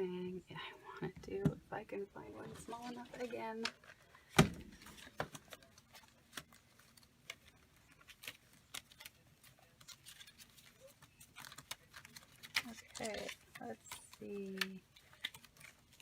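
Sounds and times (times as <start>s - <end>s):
papers being handled: 2.3s - 16.0s.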